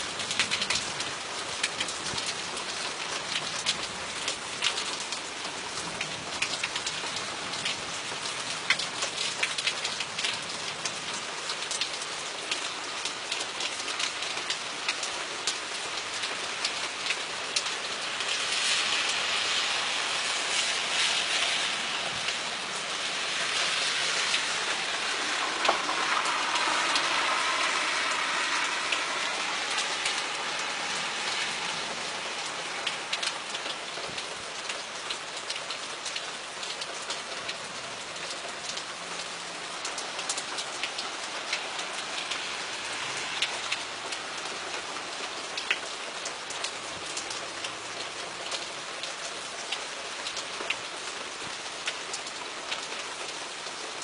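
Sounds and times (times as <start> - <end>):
raindrops tapping a surface: 0.0 - 54.0
steady rain falling: 0.0 - 54.0.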